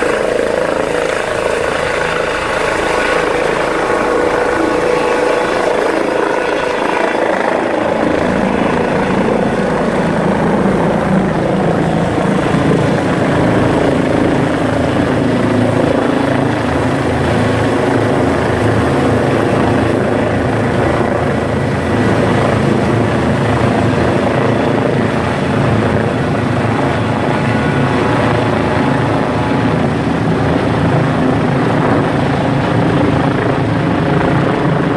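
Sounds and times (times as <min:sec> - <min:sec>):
helicopter taking off overhead: 0:00.0 - 0:34.9.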